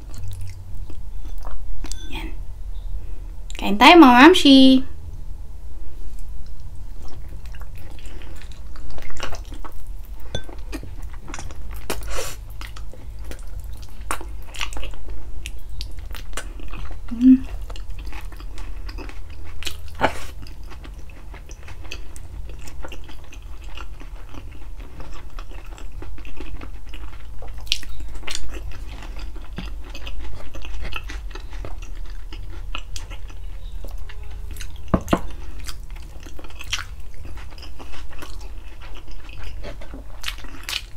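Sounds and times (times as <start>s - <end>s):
low steady hum: 0.0s - 40.9s
chewing and biting food: 6.4s - 40.9s.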